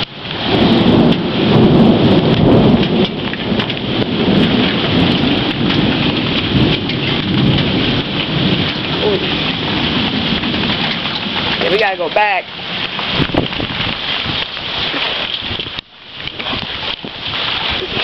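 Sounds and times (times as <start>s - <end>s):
heavy rain: 0.0s - 18.0s
thunder rumbling: 0.0s - 18.0s.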